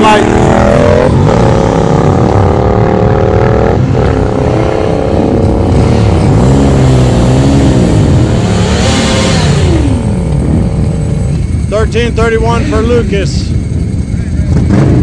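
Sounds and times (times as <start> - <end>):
lower engine note rising and falling: 0.0 - 15.0
motorcycle engines at full throttle: 0.0 - 15.0.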